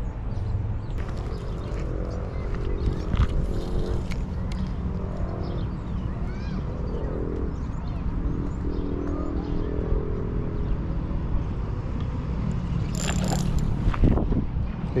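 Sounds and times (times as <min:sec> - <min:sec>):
birds chirping: 0:00.0 - 0:10.8, 0:12.6 - 0:14.2.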